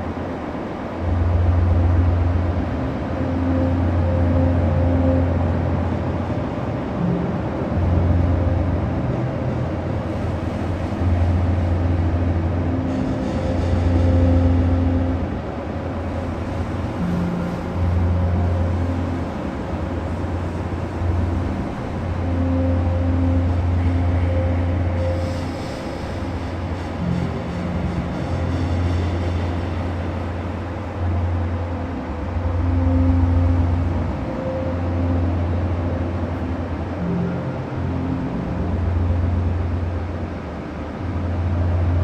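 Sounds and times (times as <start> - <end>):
bus engine and road rumble: 0.0 - 42.0
deep low hum: 0.0 - 42.0
faint steady tones: 0.0 - 42.0.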